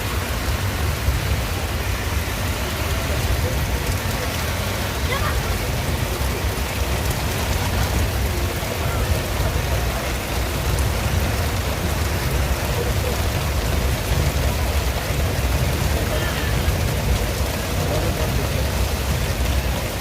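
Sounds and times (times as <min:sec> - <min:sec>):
constant low rumble: 0:00.0 - 0:20.0
torrential rain pouring: 0:00.0 - 0:20.0.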